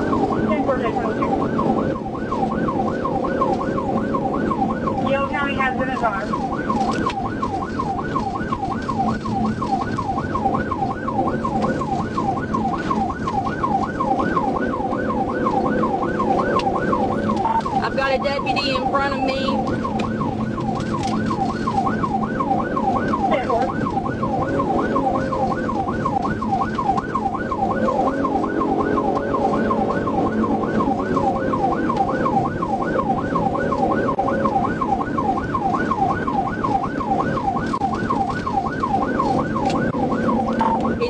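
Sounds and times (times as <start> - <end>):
police siren yelping: 0.0 - 41.0
vehicle road and engine rumble: 0.0 - 41.0.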